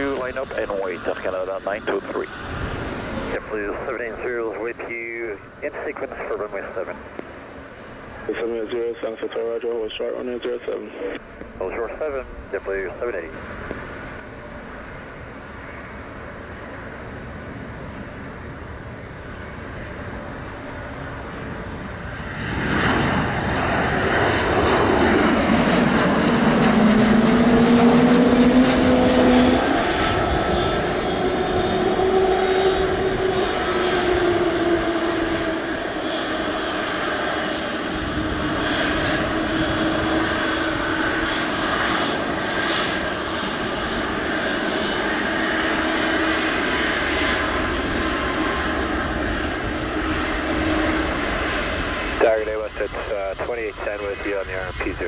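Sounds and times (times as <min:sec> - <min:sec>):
jet engine whine: 0:00.0 - 0:55.0
jet roar: 0:00.0 - 0:55.0.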